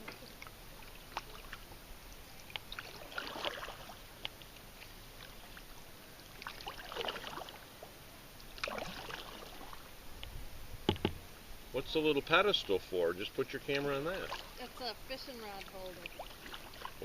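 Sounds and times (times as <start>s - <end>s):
kayak paddle splashing in water: 0.0s - 7.7s, 8.4s - 9.9s, 12.2s - 17.0s.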